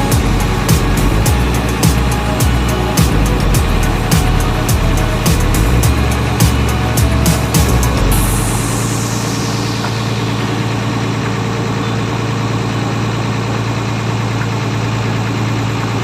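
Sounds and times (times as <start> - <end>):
boat engine humming: 0.0 - 15.5.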